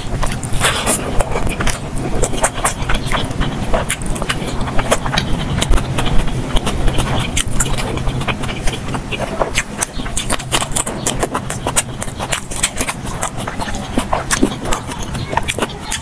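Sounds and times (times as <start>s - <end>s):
chewing and mouth smacking: 0.0s - 16.0s.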